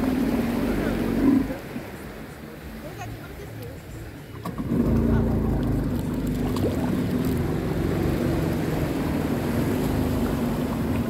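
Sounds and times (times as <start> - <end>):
jet ski engine running: 0.0 - 11.0.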